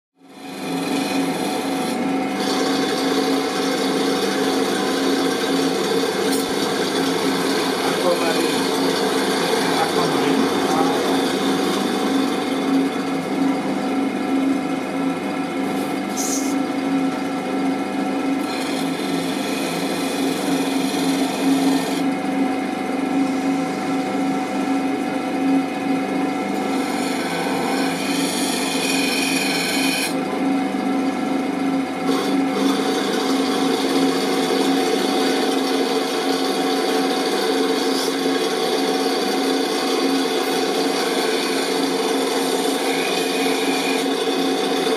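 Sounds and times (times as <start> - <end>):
grinding machine motor humming: 0.2 - 44.9.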